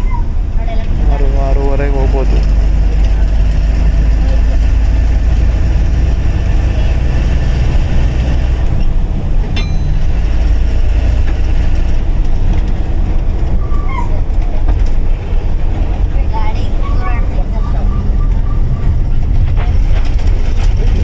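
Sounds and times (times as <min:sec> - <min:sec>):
bus diesel engine rumble: 0:00.0 - 0:21.0
road noise: 0:00.0 - 0:21.0.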